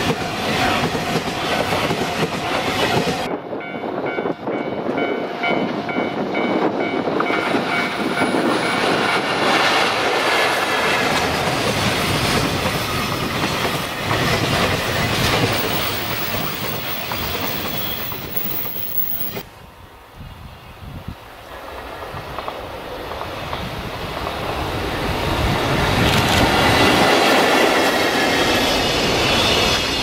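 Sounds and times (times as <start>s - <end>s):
freight train passing: 0.0s - 30.0s.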